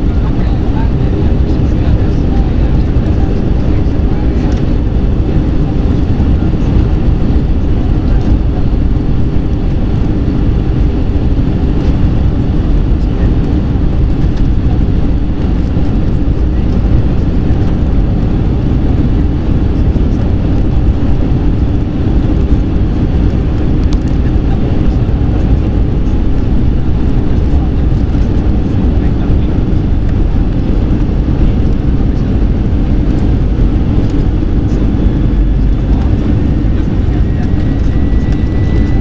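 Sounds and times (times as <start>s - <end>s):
airplane cabin engine rumble: 0.0s - 39.0s.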